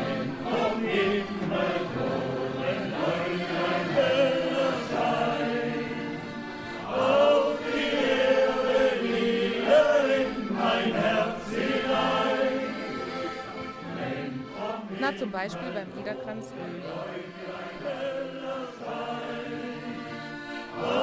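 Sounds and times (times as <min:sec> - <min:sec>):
group singing folk song: 0:00.0 - 0:21.0.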